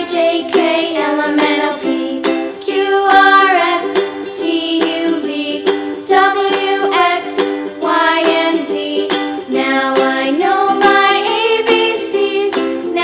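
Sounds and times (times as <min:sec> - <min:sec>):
children's song music with beat: 0:00.0 - 0:13.0.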